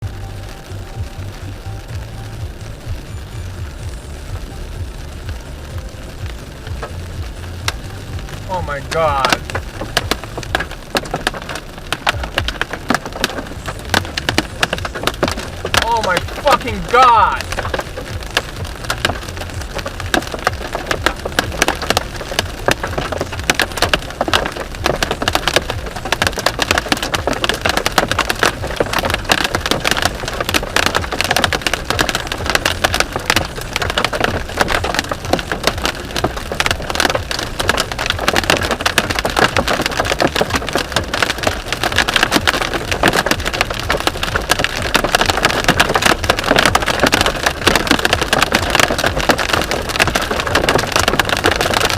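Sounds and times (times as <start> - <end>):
car driving rumble: 0.0 - 51.9
hail clattering on car roof: 8.5 - 51.9.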